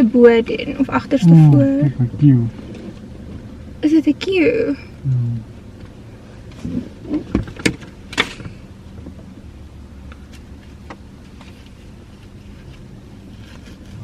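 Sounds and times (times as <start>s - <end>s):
car low hum: 0.0s - 14.0s.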